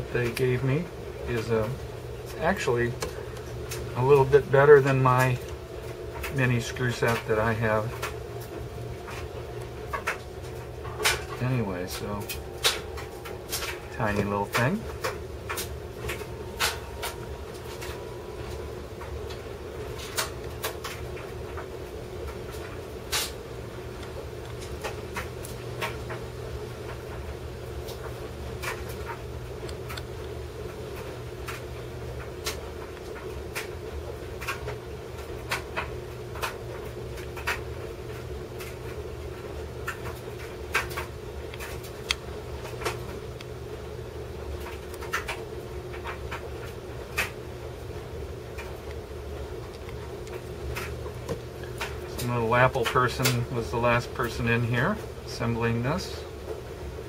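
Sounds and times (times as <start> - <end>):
laundry machine hum: 0.0 - 57.0.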